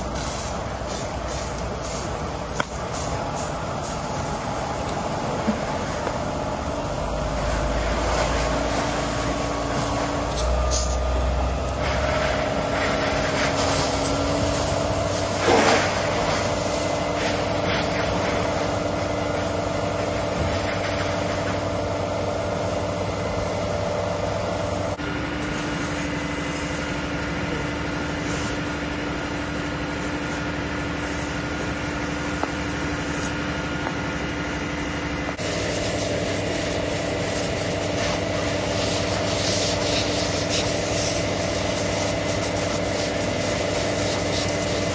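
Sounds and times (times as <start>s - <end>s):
hose spraying water: 0.0s - 23.7s, 24.5s - 27.2s, 27.9s - 34.2s, 35.3s - 44.9s
fire engine and pump hum: 0.0s - 44.9s.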